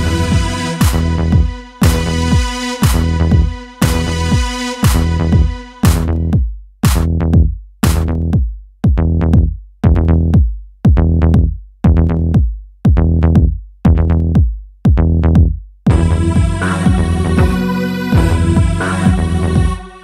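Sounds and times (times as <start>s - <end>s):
electronic music with bass hits: 0.0s - 20.0s.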